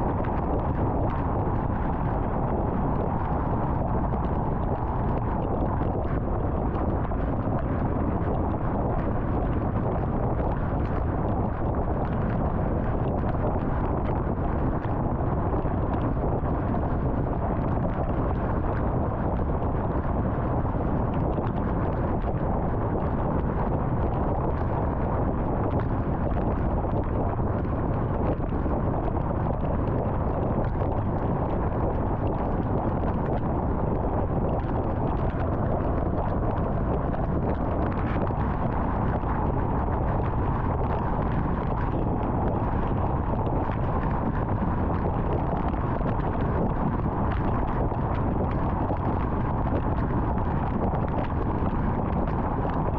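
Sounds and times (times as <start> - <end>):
wind noise: 0.0 - 52.9.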